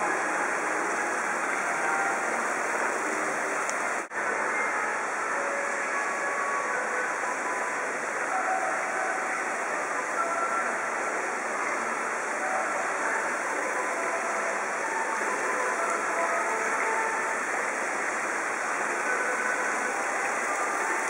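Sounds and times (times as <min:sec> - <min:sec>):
running water from fountain: 0:00.0 - 0:21.0.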